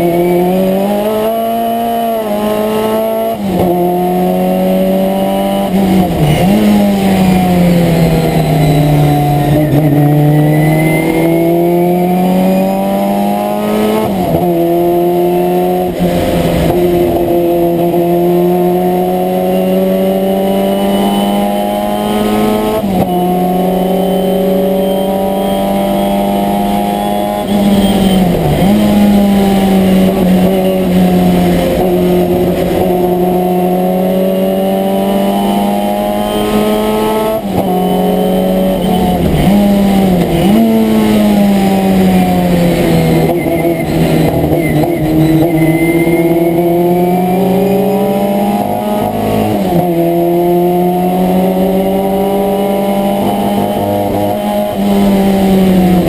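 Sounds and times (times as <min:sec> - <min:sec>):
racing car engine from cabin: 0:00.0 - 0:56.0.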